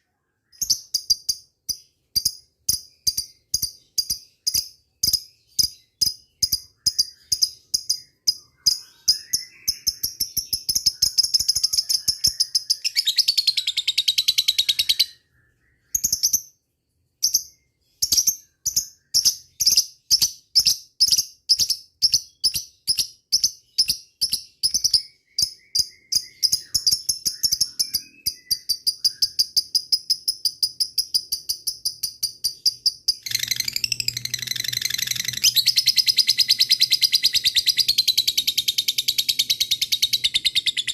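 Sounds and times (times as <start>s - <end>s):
lovebird chirping and trilling: 0.4s - 40.9s.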